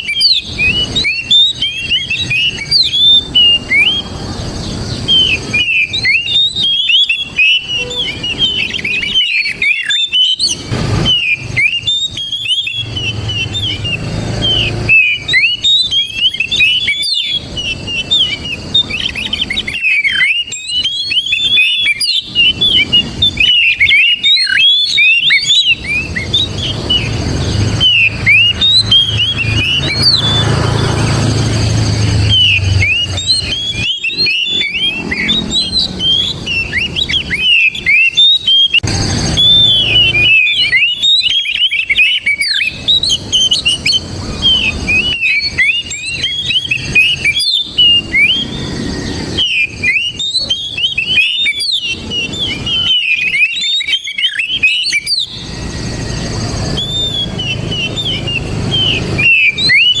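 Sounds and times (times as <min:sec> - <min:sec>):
bird singing whistled notes: 0:00.0 - 1:00.0.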